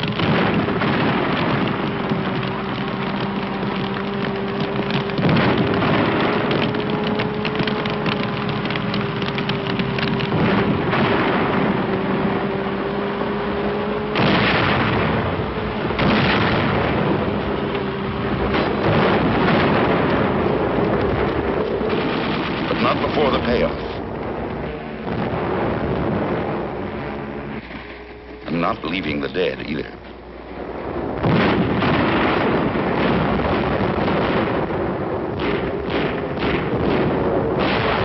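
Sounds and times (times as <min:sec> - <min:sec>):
crackling and rumbling noise: 0:00.0 - 0:38.0
steady low hum: 0:00.0 - 0:38.0.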